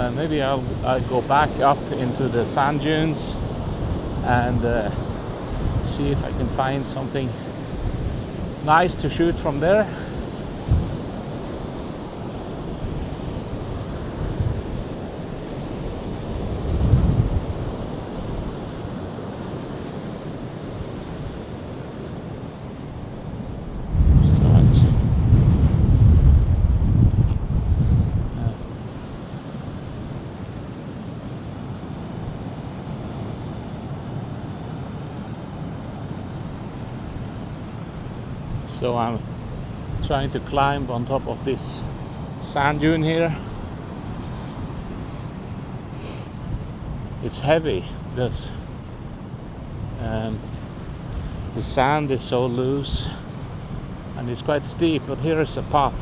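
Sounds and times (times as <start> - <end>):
ocean surf on a beach: 0.0 - 56.0
wind buffeting the microphone: 0.0 - 56.0.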